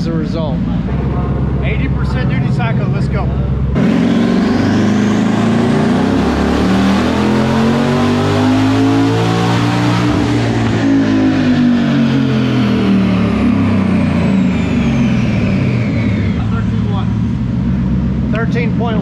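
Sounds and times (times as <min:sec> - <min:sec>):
car engine revving: 0:00.0 - 0:19.0
high turbo whine: 0:00.0 - 0:19.0.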